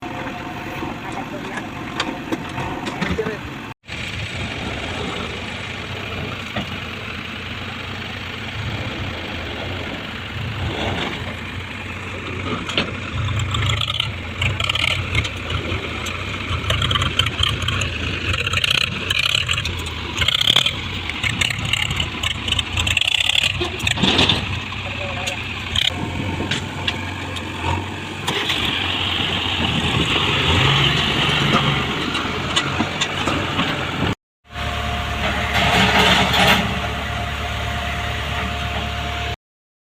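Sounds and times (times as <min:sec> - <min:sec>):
heavy diesel engine running: 0:00.0 - 0:39.4.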